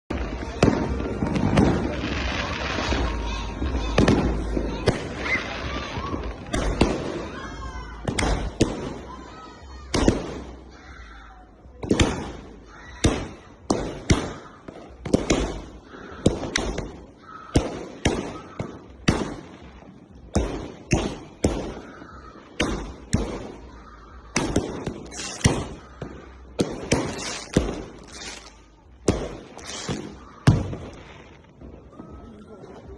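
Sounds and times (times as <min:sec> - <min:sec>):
firework shots with echo: 0:00.1 - 0:32.9.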